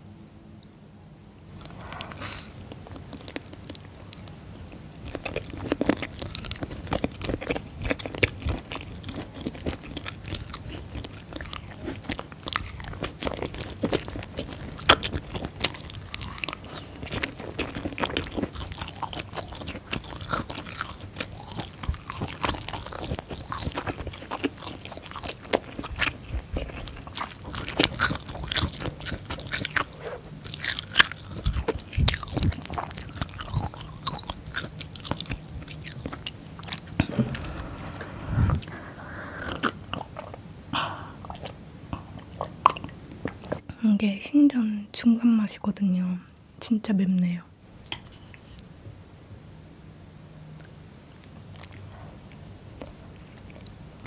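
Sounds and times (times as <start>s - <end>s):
chewing noodles: 1.5s - 40.4s, 41.2s - 43.6s, 50.4s - 54.0s.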